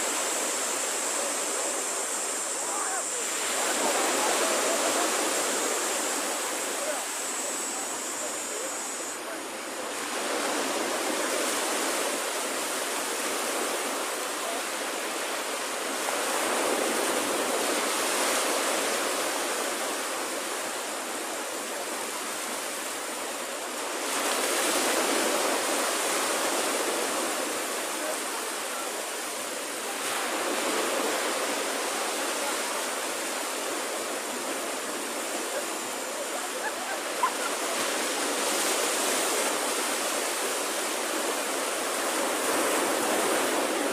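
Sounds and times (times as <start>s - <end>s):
waves breaking on beach: 0.0s - 43.9s.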